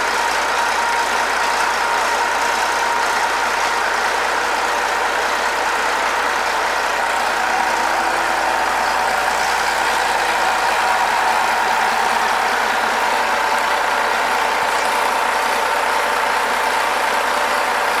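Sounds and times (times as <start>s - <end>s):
marine diesel engine running: 0.0s - 18.0s.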